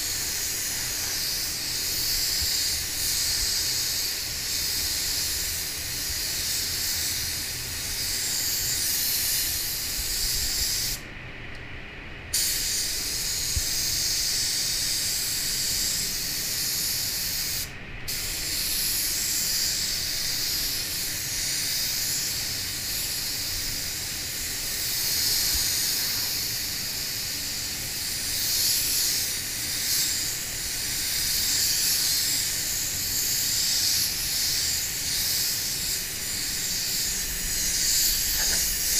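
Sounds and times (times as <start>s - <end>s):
spray gun hissing: 0.0s - 11.1s, 12.3s - 38.9s.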